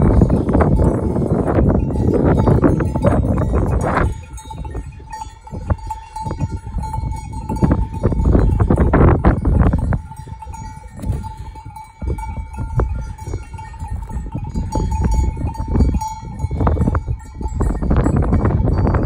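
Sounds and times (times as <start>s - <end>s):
sheep bells clanking: 0.0s - 19.0s
wind buffeting microphone: 0.0s - 19.0s.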